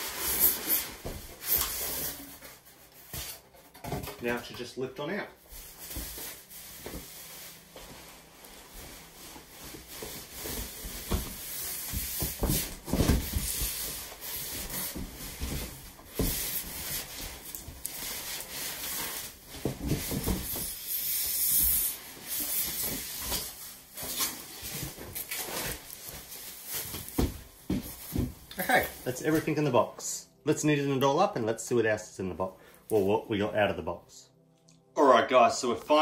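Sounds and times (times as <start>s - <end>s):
plastic wrapping and cardboard rustling: 0.0s - 31.3s.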